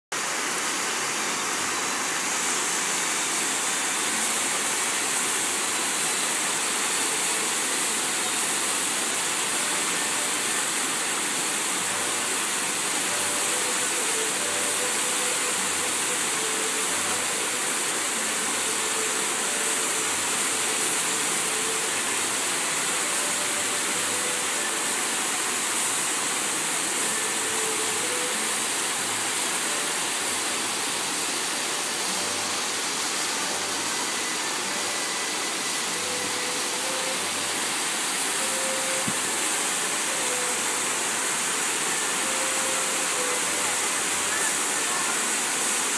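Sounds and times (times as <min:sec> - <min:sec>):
fountain water splashing: 0:00.2 - 0:45.9.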